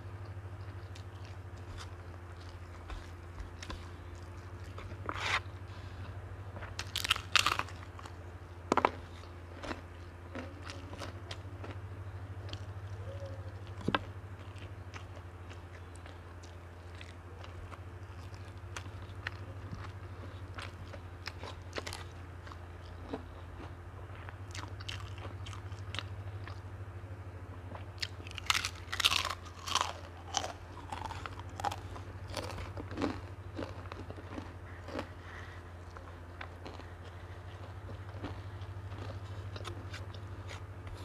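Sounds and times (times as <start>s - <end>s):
person chewing and crunching: 0.0s - 26.7s, 27.6s - 41.0s
steady low hum: 0.0s - 41.0s.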